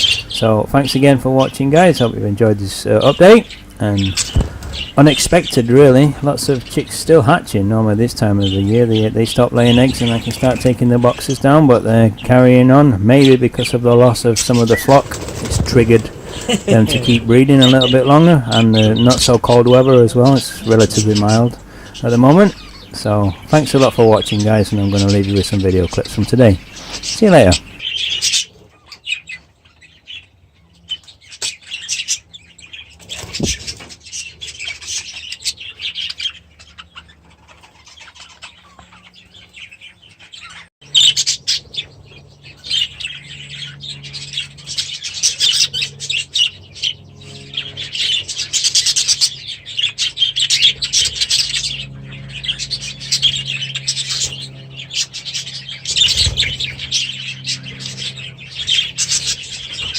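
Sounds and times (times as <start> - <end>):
low steady hum: 0.0 - 31.3, 40.8 - 59.9
budgerigars chattering and chirping: 0.0 - 59.9.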